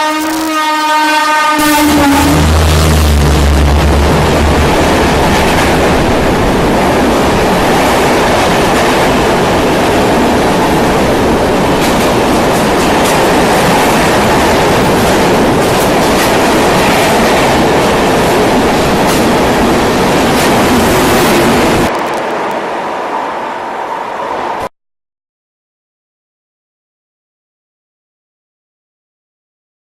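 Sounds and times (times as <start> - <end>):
train rushing past: 0.0 - 24.7.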